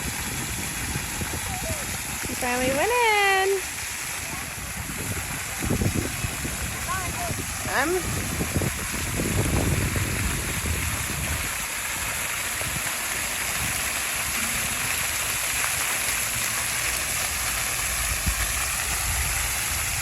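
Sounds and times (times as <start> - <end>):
water feature splashing: 0.0 - 20.0.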